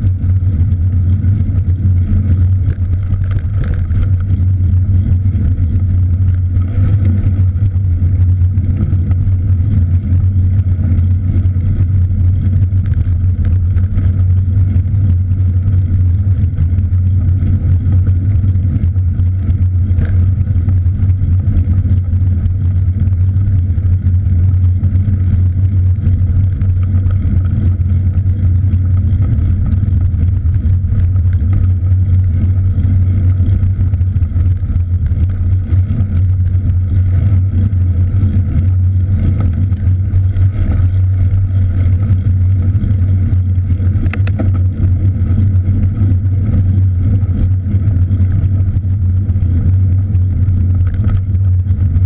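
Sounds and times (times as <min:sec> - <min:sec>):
even steady noise: 0:00.0 - 0:52.0
wind rumble on microphone: 0:00.0 - 0:52.0.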